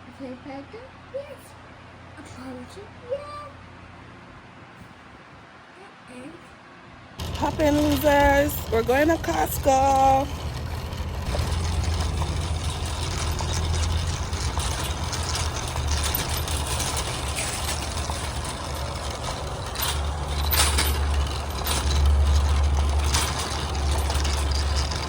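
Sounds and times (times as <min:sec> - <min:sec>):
engine and road noise: 0:00.0 - 0:25.0.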